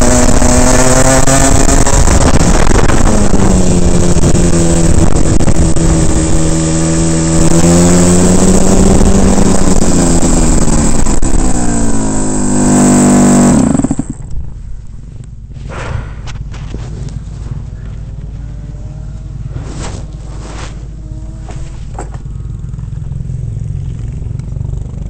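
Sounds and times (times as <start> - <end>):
kart engine under load: 0.0 - 14.6, 19.2 - 25.0
kart rolling noise: 0.0 - 14.6, 19.2 - 25.0.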